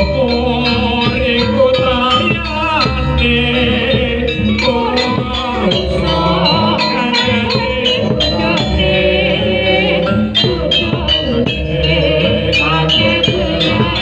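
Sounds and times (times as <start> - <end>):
percussion ensemble music: 0.0 - 14.0
wavering melody: 0.0 - 14.0.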